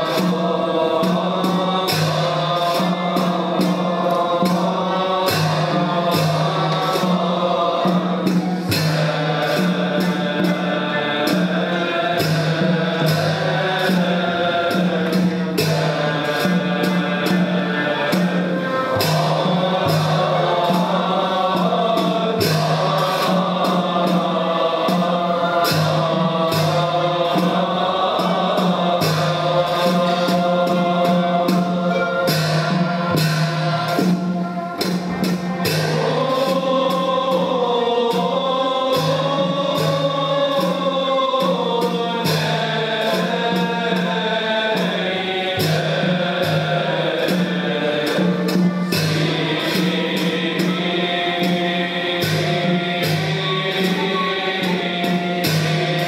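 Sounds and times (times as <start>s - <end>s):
hand frame drum beat: 0.0s - 56.0s
men singing in unison: 0.0s - 56.0s.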